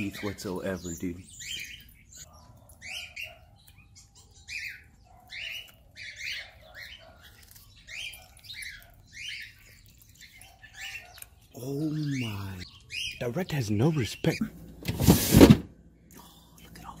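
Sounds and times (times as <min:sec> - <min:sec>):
small birds chirping: 0:00.0 - 0:14.8, 0:15.8 - 0:17.0.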